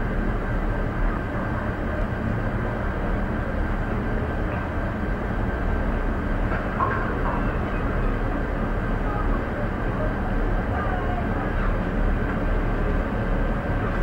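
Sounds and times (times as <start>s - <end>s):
cable car cabin rumble and hiss: 0.0s - 14.0s.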